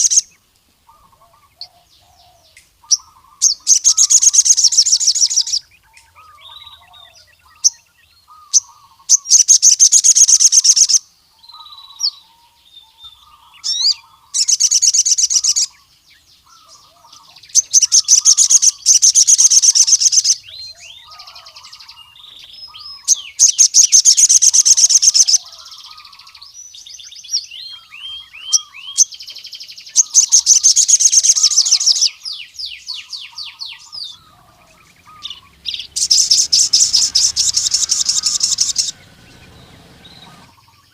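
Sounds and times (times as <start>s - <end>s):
bird chirps and twittering: 0.0s - 40.9s
bird singing high trills: 0.0s - 40.9s.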